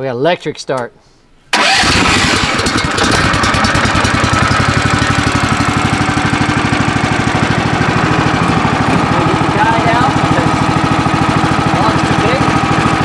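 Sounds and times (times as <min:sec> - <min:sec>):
gas engine running: 0:01.6 - 0:13.0.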